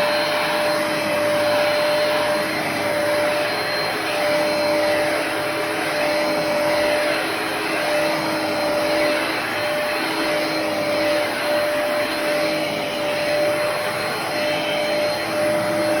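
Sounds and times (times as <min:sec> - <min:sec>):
carpet cleaner motor drone: 0:00.0 - 0:16.0.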